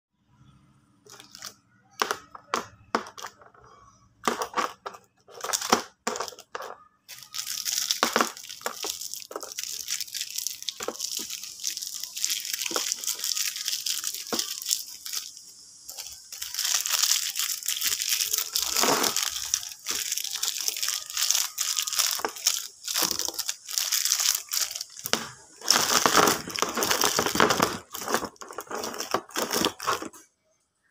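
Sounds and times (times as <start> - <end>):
plastic wrappers crinkling: 1.1 - 30.2.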